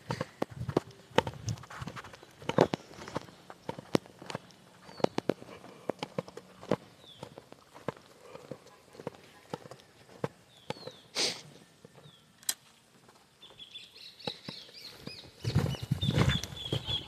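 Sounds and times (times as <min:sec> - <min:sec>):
small birds chirping: 0:00.0 - 0:12.4, 0:13.2 - 0:17.0
footsteps on dirt: 0:00.0 - 0:17.0.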